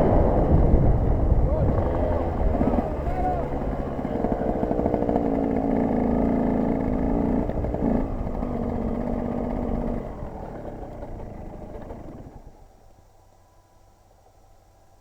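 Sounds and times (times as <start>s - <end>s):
two-stroke motorcycle engine running: 0.0s - 12.8s.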